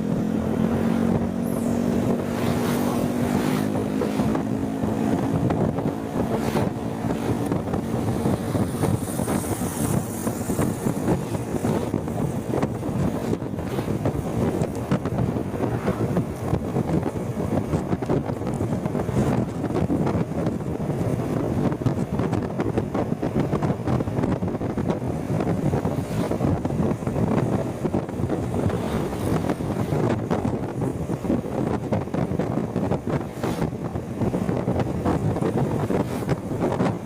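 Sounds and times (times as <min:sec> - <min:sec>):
road and traffic noise: 0:00.0 - 0:37.0
wind buffeting microphone: 0:00.0 - 0:37.0.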